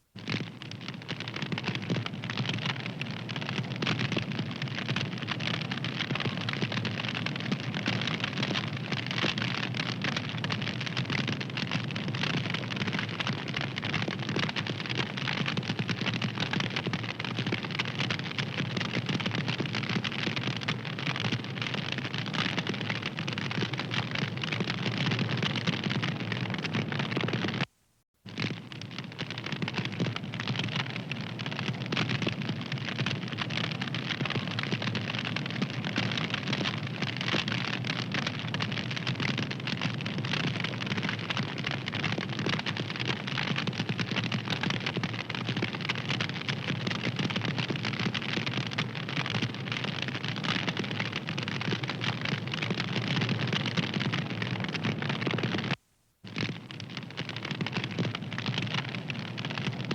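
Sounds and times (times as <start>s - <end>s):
wood fire crackling: 0.2s - 59.9s.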